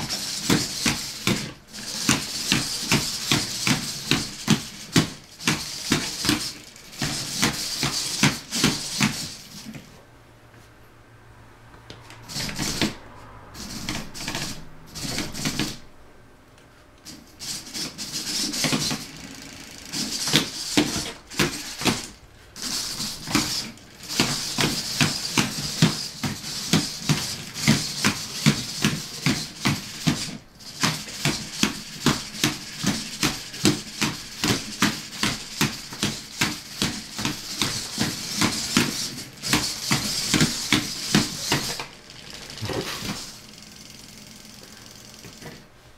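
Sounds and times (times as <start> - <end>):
servos whirring: 0.0 - 9.9, 17.1 - 45.6.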